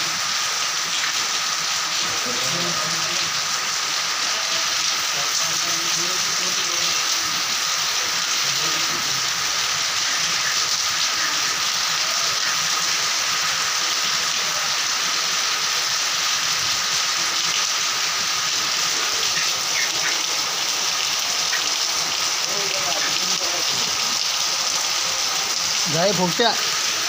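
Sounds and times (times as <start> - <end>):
heavy rain falling: 0.0 - 27.0
water streaming off metal roofs: 0.0 - 27.0.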